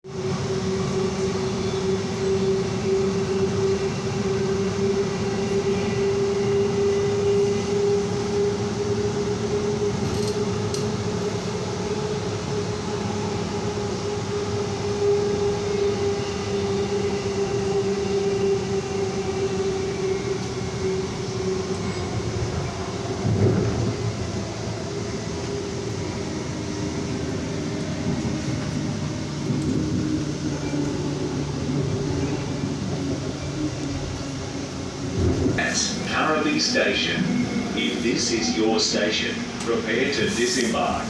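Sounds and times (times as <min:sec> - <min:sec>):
train rumbling inside carriage: 0:00.0 - 0:41.0.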